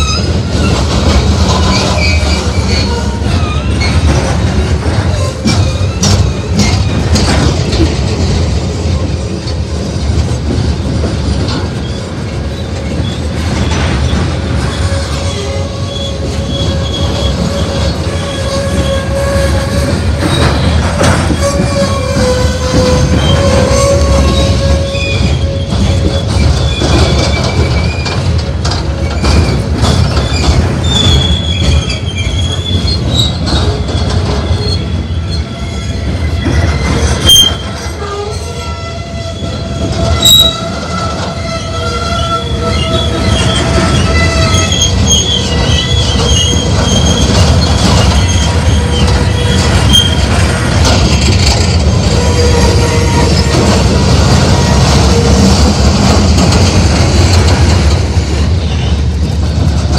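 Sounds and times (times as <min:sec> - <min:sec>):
wheels squealing: 0:00.0 - 0:07.7, 0:11.5 - 0:59.0
train wheels rumbling on rail: 0:00.0 - 0:59.9.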